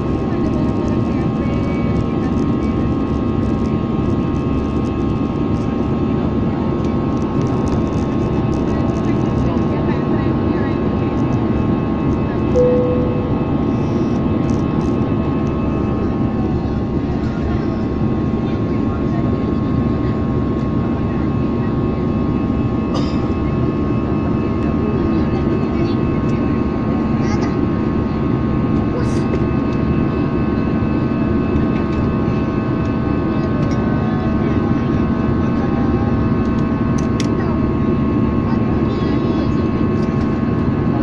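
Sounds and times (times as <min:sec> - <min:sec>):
jet engines droning: 0:00.0 - 0:41.0.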